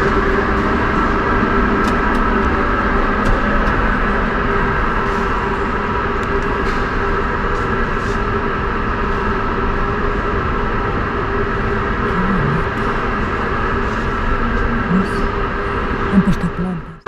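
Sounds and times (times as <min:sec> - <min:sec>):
even rush of hall noise: 0:00.0 - 0:17.0
held hum tones: 0:00.0 - 0:17.0.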